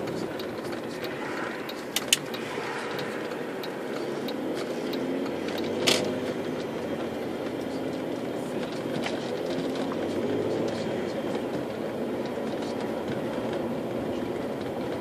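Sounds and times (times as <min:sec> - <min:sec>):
light ticks: 0:00.0 - 0:13.6
car engine and tyre rumble: 0:00.0 - 0:15.0.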